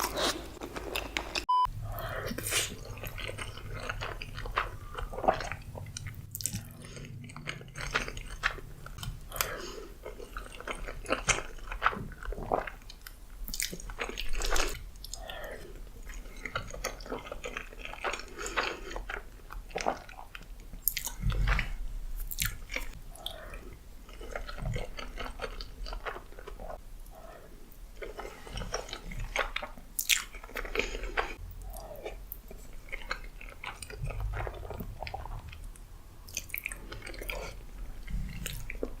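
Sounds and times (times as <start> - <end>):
person chewing: 0.0 - 39.0.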